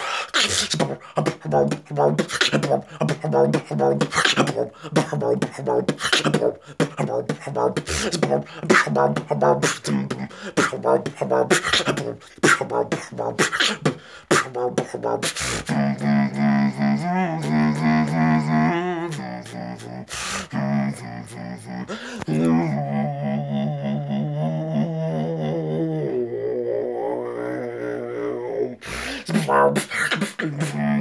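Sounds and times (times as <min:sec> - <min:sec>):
beatboxing: 0:00.0 - 0:26.0, 0:28.8 - 0:31.0.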